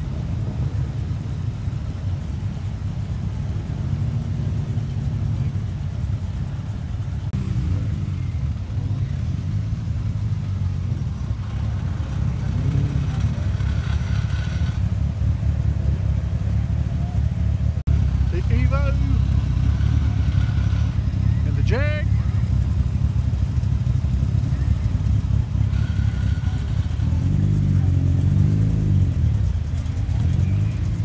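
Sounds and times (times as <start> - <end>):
car engines rumbling and revving: 0.0 - 31.0.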